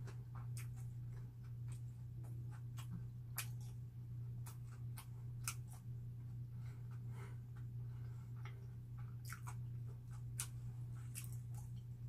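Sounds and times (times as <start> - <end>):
chewing bread: 0.0 - 12.0
low hum: 0.0 - 12.0.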